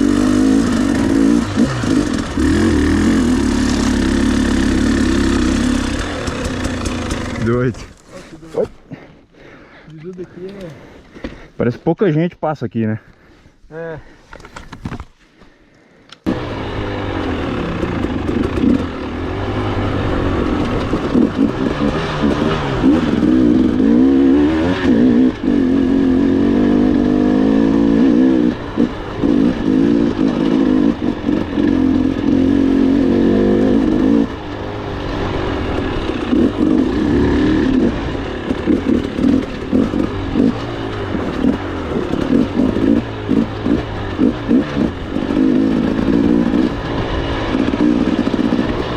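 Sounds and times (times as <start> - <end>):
motorcycle engine revving: 0.0 - 7.9, 16.2 - 48.9.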